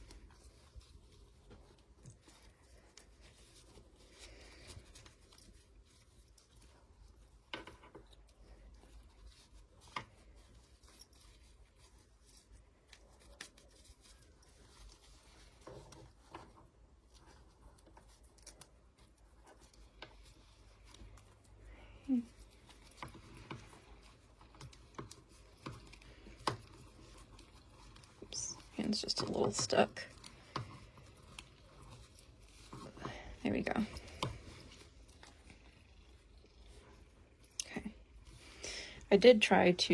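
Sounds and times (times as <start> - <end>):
faint rustling of cloth: 0.0 - 39.9.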